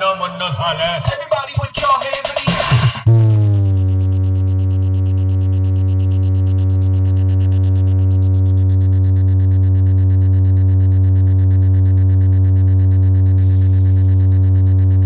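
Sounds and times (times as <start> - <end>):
loud steady bass tone: 2.8 - 15.0.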